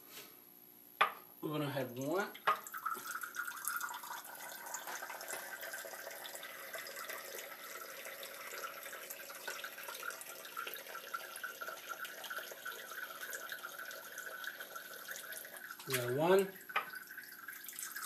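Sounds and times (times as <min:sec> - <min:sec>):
water trickling into glasses: 0:01.7 - 0:18.0.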